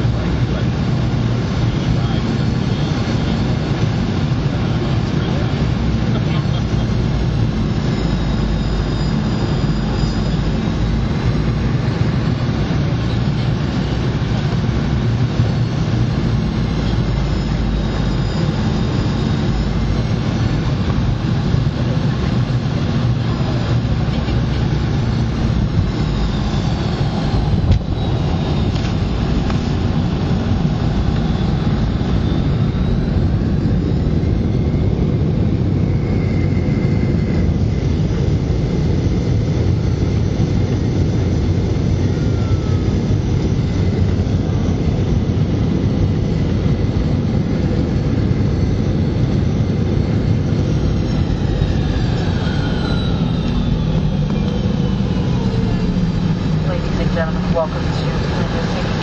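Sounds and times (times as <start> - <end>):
faint high whine: 0.0 - 59.0
jet engine cabin rumble: 0.0 - 59.0.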